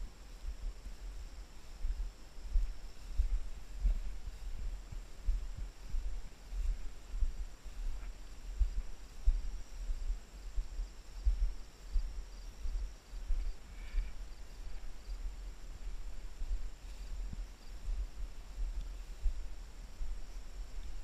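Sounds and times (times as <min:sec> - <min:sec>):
faint high hum: 0:00.0 - 0:21.0
wind buffeting microphone: 0:00.0 - 0:21.0
camera thumps from footsteps: 0:00.4 - 0:21.0.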